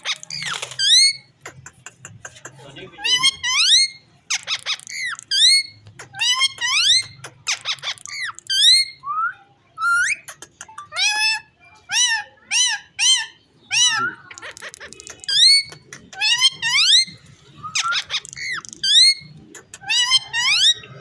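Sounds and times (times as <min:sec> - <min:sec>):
parrot high-pitched calls: 0:00.0 - 0:01.3, 0:03.0 - 0:09.1, 0:09.8 - 0:21.0.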